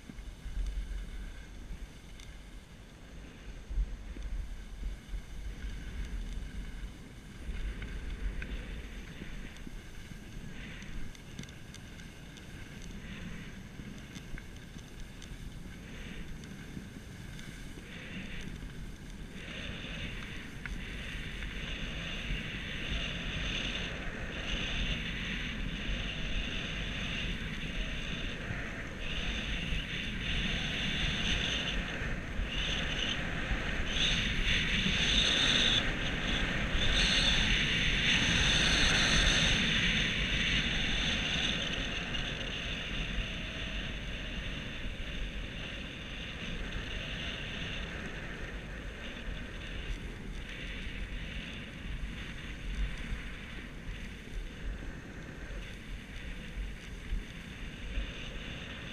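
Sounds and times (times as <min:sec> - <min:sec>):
skis scraping over snow: 0:00.0 - 0:58.9
wind on microphone: 0:00.0 - 0:58.9.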